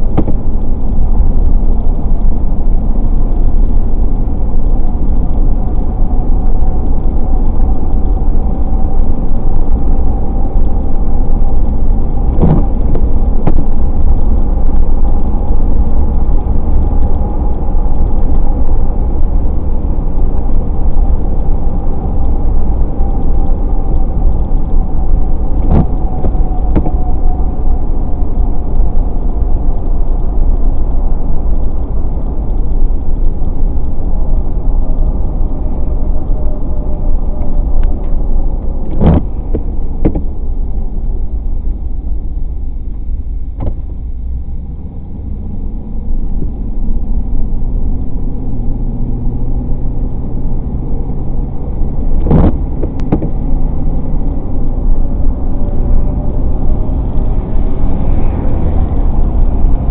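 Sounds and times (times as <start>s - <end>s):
car road and engine rumble: 0.0s - 59.9s
steady low hum: 0.0s - 59.9s.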